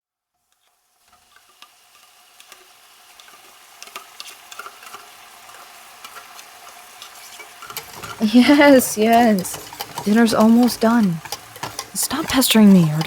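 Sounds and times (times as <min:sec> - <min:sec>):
sauce sizzling in a pan: 0:00.1 - 0:13.0
utensil clicking and scraping pan: 0:00.4 - 0:13.0.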